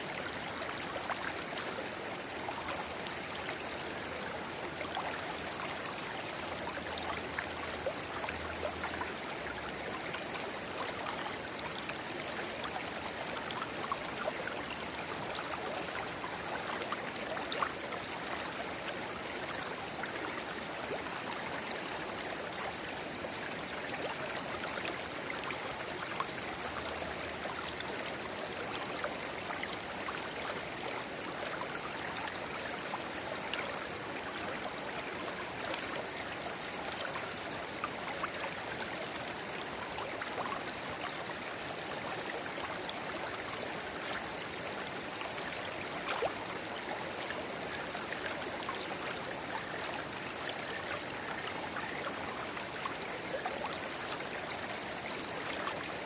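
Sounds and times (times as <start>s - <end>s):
river babbling: 0.0s - 56.0s
water gurgles and splashes: 0.0s - 56.0s.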